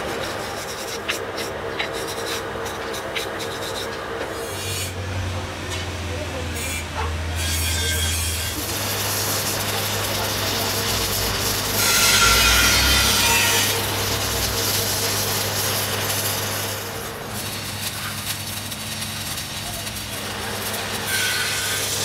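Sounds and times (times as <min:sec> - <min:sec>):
welding arc crackling hiss: 0:00.0 - 0:05.0, 0:08.2 - 0:22.0.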